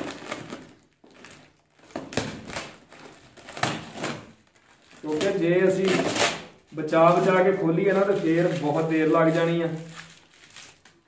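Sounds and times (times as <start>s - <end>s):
packing tape ripping off cardboard: 0.0s - 11.0s.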